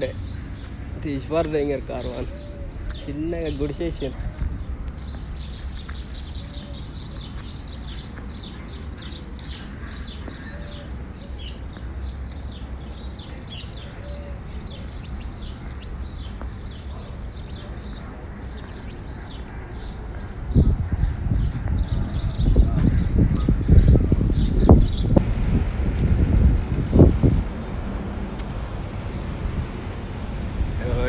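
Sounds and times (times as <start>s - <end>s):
small birds chirping: 0.0s - 25.2s, 25.8s - 28.6s
steady low rumble: 0.0s - 31.0s.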